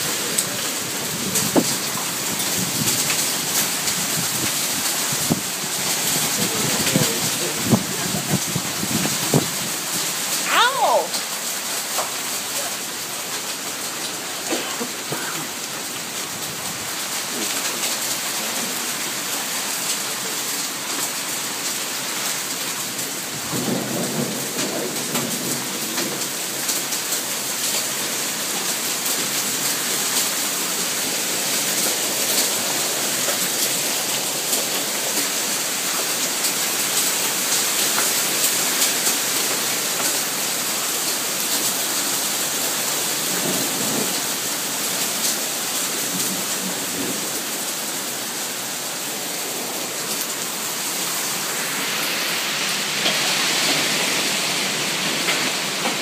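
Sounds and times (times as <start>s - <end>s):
hail and heavy rain pelting: 0.0s - 56.0s.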